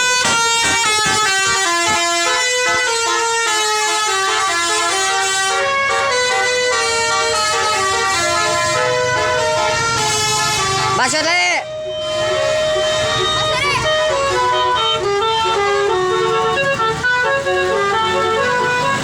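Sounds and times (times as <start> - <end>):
musical bus horn melody: 0.0 - 19.0.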